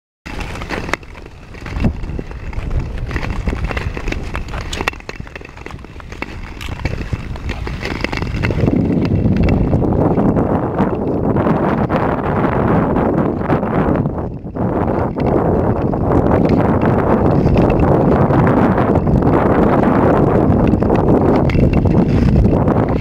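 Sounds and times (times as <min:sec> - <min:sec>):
skate blades scraping on ice: 0:00.3 - 0:23.0
wind rumbling on microphone: 0:00.3 - 0:23.0.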